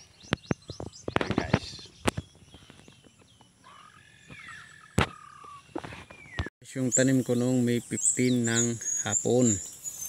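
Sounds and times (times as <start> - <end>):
birds calling with whistled notes: 0.0 - 10.0.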